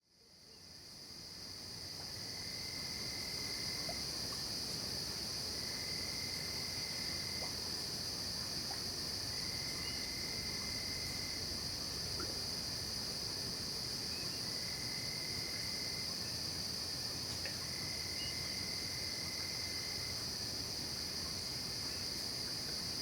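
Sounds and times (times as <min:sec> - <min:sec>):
crickets droning: 0:00.1 - 0:23.0
low insect trill: 0:00.1 - 0:23.0.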